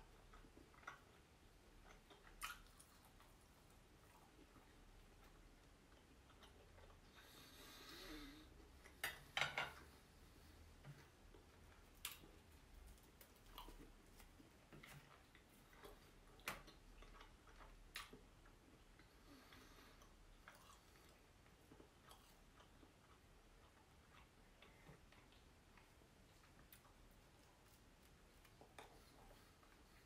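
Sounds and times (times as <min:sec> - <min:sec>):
quiet chewing: 0:00.0 - 0:30.0.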